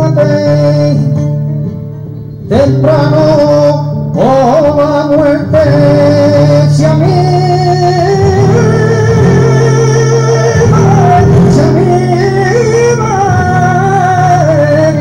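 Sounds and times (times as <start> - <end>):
flamenco guitar: 0.0 - 15.0
man singing melismatic lines: 0.0 - 15.0.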